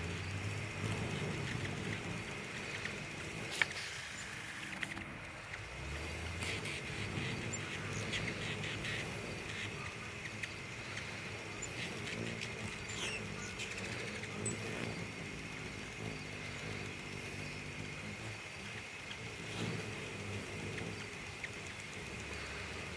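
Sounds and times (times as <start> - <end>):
steady high drone: 0.0 - 18.6
hummingbird chip notes: 0.0 - 22.9
hummingbird wings humming: 0.0 - 22.9.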